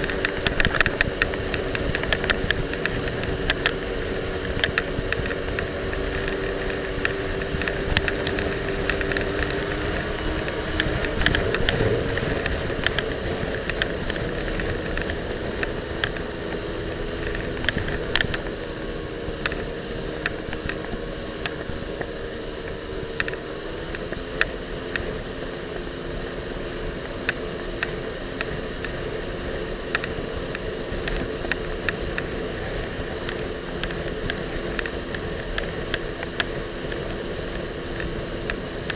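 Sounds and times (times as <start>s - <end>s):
jet ski engine running: 0.0s - 38.9s
wind and water noise: 0.0s - 38.9s.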